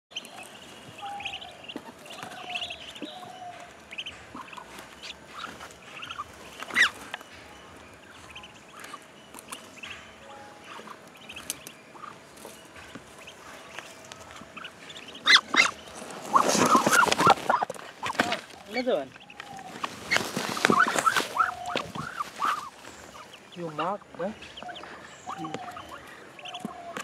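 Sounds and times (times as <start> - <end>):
ducklings peeping: 0.1 - 27.0.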